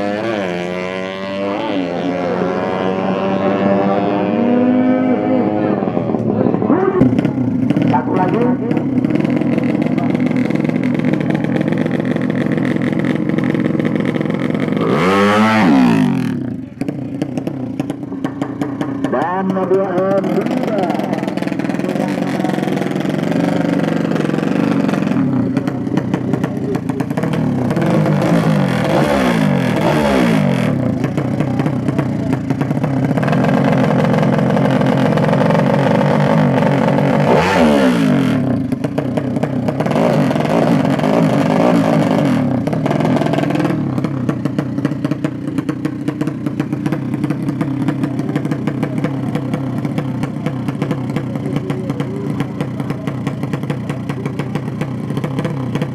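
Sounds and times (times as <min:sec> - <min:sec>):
motorcycle engines revving: 0:00.0 - 0:55.9.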